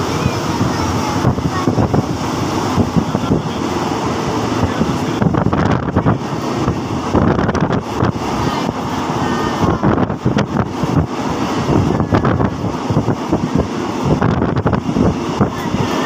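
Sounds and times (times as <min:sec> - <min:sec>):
train running rumble: 0:00.0 - 0:16.0
wind buffeting microphone: 0:00.0 - 0:16.0.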